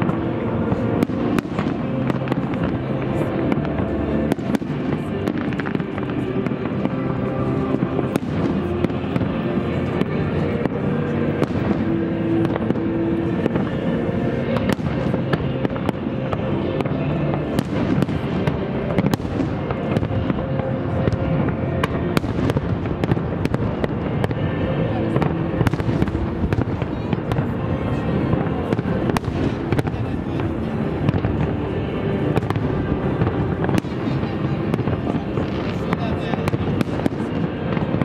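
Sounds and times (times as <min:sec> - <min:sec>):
fireworks bursting: 0:00.0 - 0:38.0
fireworks rumble: 0:00.0 - 0:38.0.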